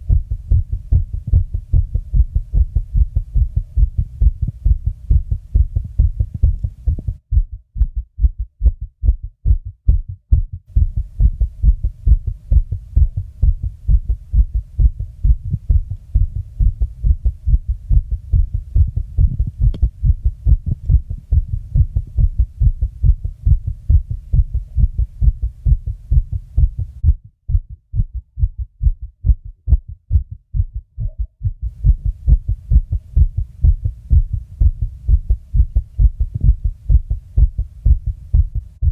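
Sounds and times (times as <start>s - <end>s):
fast heartbeat thumps: 0.0s - 38.9s.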